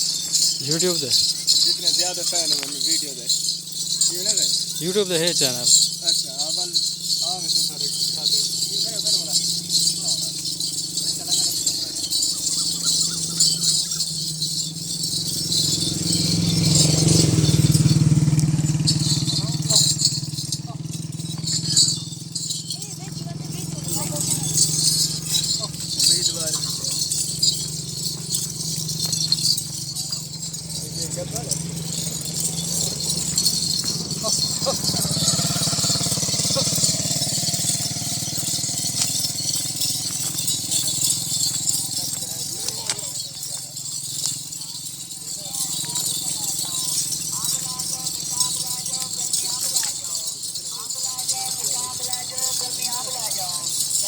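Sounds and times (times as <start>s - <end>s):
small ankle bells jingling: 0.0s - 54.0s
low pulsing engine hum: 5.6s - 49.4s.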